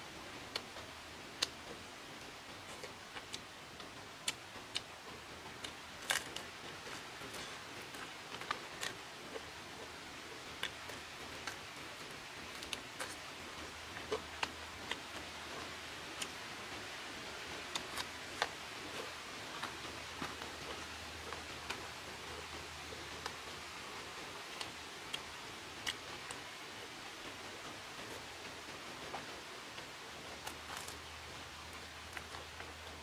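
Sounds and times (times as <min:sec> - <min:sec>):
faint background hiss: 0:00.0 - 0:33.0
person eating chicken by hand: 0:00.5 - 0:33.0.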